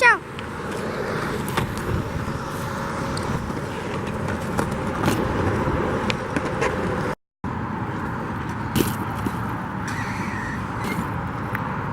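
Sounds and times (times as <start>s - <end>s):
wind buffeting microphone: 0.3s - 11.9s.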